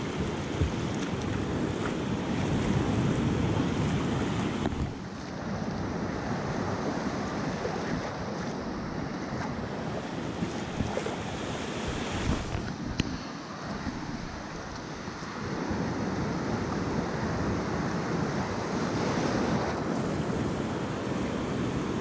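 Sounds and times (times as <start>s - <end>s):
ocean surf washing up beach: 0.0s - 22.0s
wind buffeting microphone: 0.0s - 22.0s.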